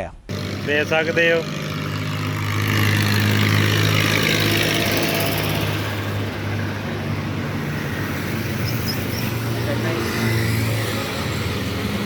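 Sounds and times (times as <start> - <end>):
road traffic noise: 0.3 - 12.0
vehicle engine humming: 0.3 - 12.0.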